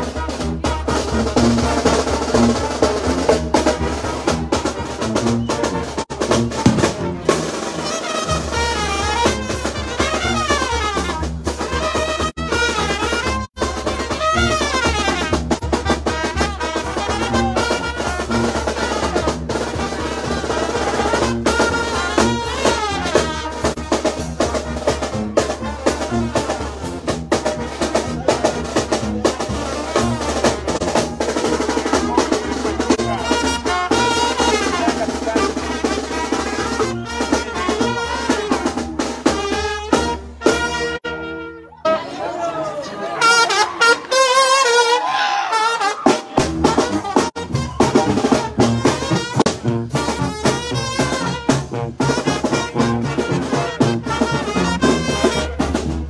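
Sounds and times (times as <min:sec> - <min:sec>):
sousaphone bass line: 0:00.0 - 0:38.9, 0:46.4 - 0:56.0
snare and bass drums: 0:00.0 - 0:41.0, 0:45.7 - 0:56.0
brass horns playing melody: 0:00.0 - 0:56.0.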